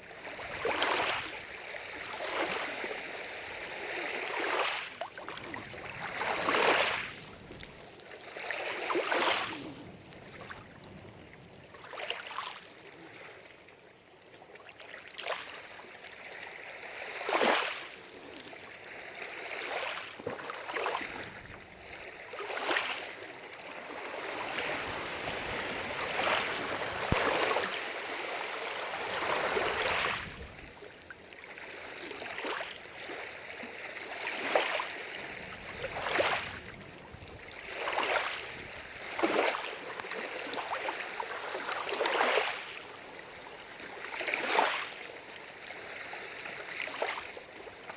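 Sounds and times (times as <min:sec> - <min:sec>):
small waves lapping: 0:00.0 - 0:47.9.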